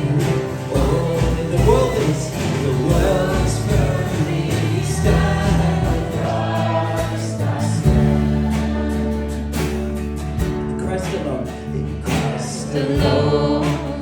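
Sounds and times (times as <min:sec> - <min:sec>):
group singing worship song: 0:00.0 - 0:10.4, 0:12.0 - 0:14.0
band playing: 0:00.0 - 0:14.0.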